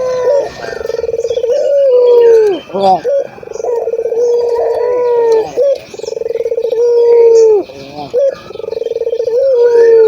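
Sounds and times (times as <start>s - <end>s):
dove cooing: 0.0s - 10.0s.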